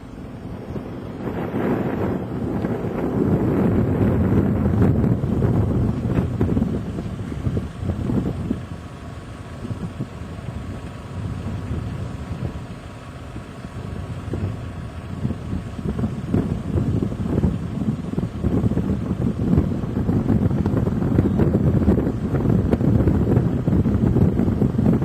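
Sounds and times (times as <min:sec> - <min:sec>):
wind blowing across microphone: 0:00.0 - 0:25.0.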